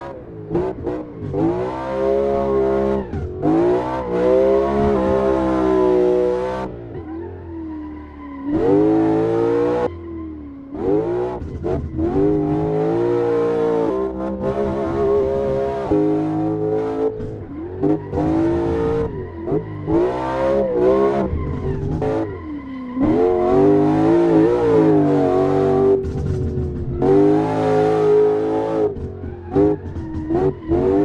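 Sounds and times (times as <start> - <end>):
car engine revving hard: 0.0 - 6.9, 8.5 - 9.9, 10.7 - 31.0.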